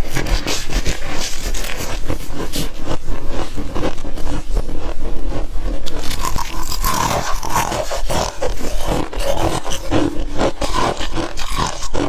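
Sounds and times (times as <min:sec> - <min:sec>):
ice crunched between teeth: 0:00.0 - 0:12.0.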